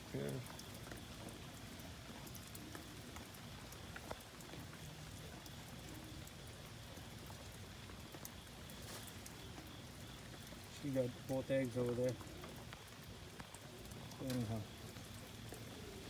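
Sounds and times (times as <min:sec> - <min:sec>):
drips of water drops: 0:00.0 - 0:16.0
steady rain falling: 0:00.0 - 0:16.0.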